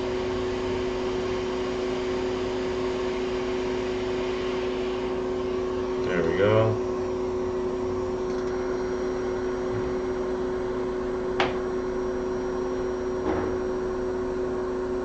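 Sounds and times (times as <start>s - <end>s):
blower fan humming: 0.0s - 15.0s.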